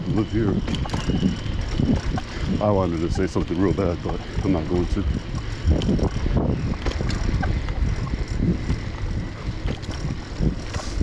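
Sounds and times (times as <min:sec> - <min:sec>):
bicycle rolling noise: 0:00.0 - 0:11.0
wind on microphone: 0:00.0 - 0:11.0.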